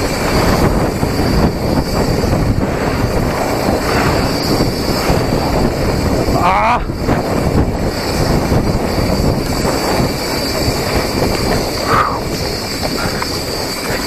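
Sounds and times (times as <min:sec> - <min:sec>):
bike tyre rumble and rattling: 0:00.0 - 0:14.0
wind on microphone: 0:00.0 - 0:14.0.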